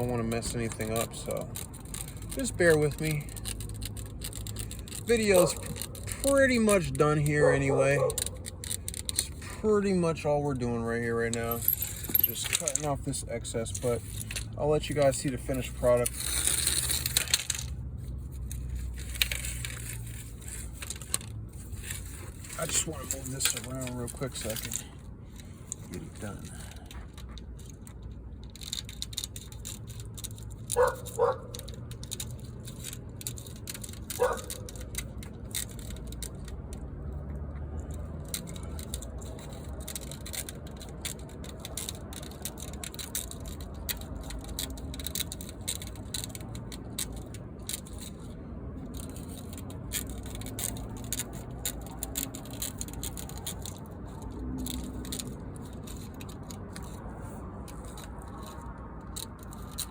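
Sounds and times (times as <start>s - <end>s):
screen mesh clicking and crinkling: 0.0s - 59.9s.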